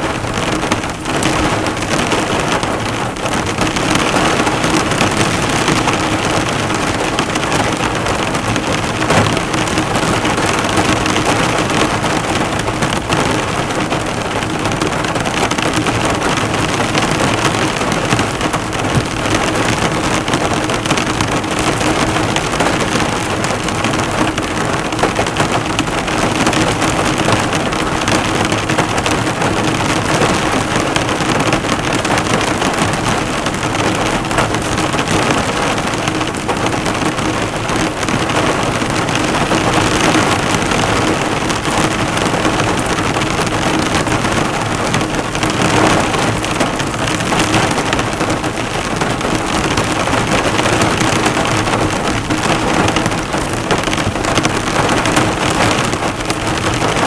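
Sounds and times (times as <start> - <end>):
heavy rain on a car: 0.0 - 57.0.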